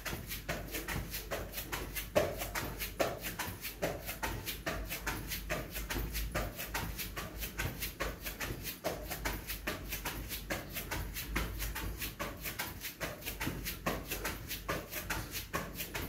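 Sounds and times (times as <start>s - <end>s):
feet landing thuds: 0.0s - 16.0s.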